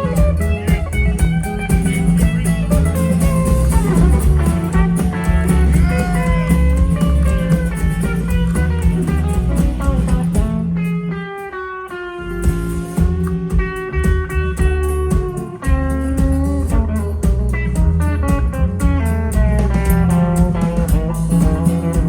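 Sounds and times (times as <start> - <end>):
bass guitar: 0.0 - 22.0
drums: 0.0 - 22.0
lead guitar with bent notes: 0.0 - 22.0.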